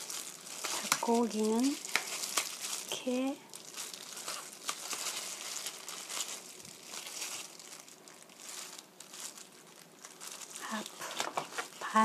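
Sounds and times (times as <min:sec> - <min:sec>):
plastic glove crinkling: 0:00.0 - 0:12.0.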